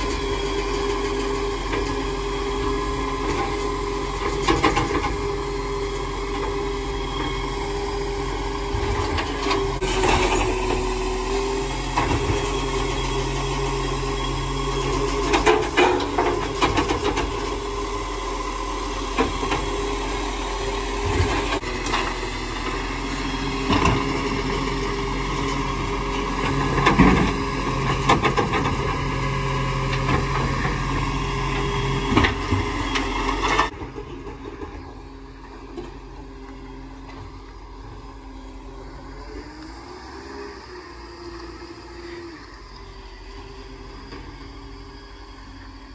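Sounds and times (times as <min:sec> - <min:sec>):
garbage truck running: 0:00.0 - 0:45.9.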